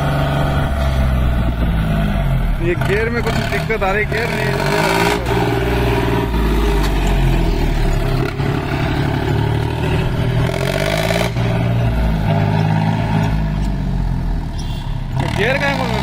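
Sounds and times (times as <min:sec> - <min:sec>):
tractor diesel engine revving: 0:00.0 - 0:16.0.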